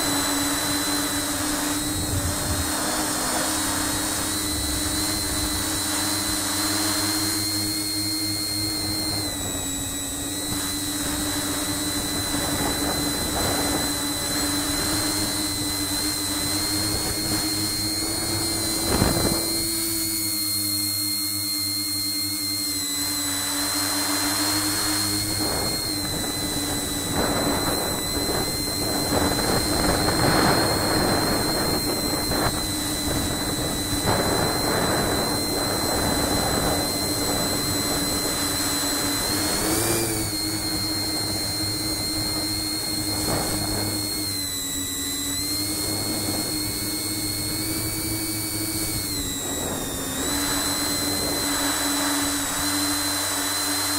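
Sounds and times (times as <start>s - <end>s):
drone motors whining: 0.0s - 53.9s.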